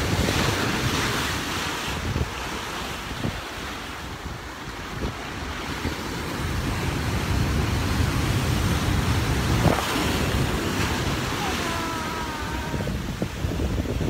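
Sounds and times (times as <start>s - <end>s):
sea waves breaking on boulders: 0.0s - 14.0s
wind buffeting microphone: 0.0s - 14.0s.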